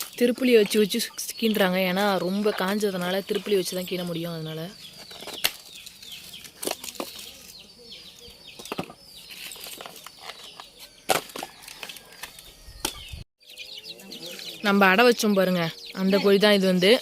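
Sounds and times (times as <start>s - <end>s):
chicks peeping: 0.9s - 17.0s.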